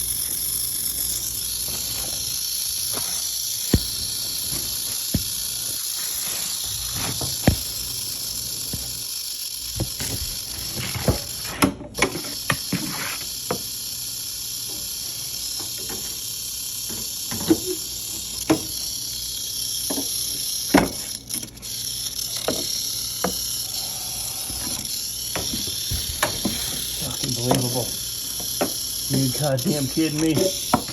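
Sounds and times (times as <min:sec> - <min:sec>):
rattlesnake rattling: 0:00.0 - 0:11.6, 0:13.4 - 0:30.9.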